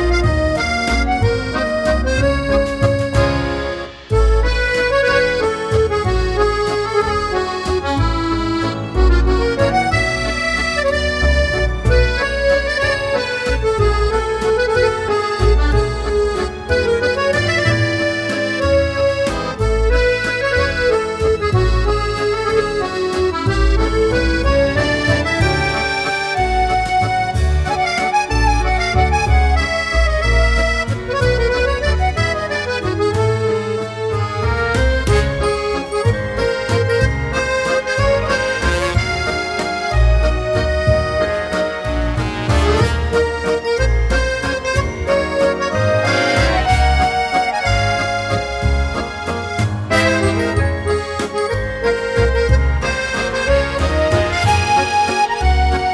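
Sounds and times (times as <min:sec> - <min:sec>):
accordion instrumental music: 0:00.0 - 0:55.9
low bass beat: 0:00.0 - 0:55.9.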